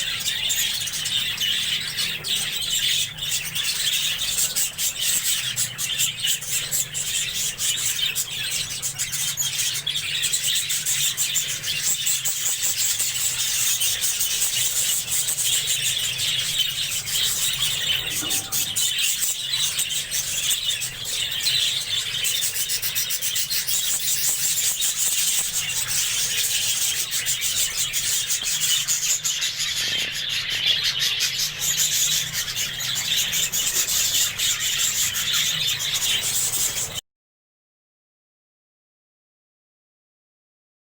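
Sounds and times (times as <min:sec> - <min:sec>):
budgerigars chattering and chirping: 0:00.0 - 0:37.0.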